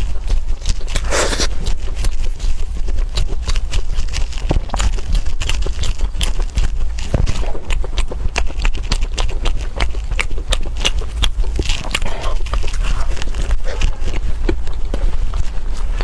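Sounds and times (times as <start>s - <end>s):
chewing with crunches: 0.0s - 16.0s.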